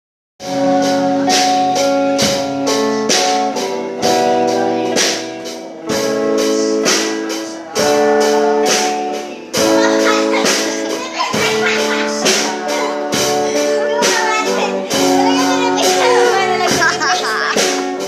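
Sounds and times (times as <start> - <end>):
drum kit beat: 0.4 - 18.0.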